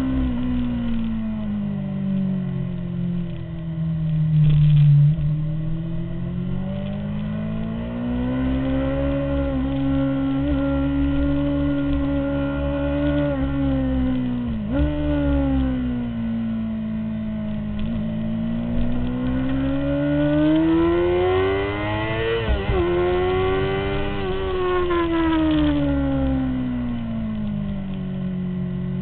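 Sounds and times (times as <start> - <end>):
motorcycle engine at speed: 0.0 - 29.0.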